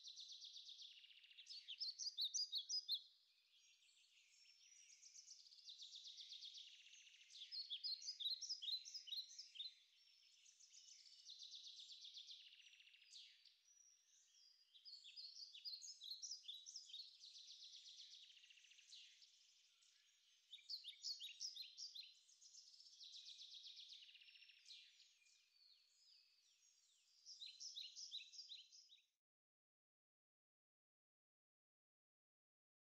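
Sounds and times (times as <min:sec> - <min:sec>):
songbirds singing: 0:00.0 - 0:29.2.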